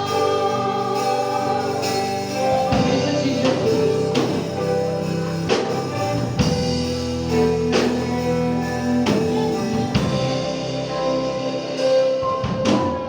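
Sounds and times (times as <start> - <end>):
gospel band playing: 0.0 - 13.0.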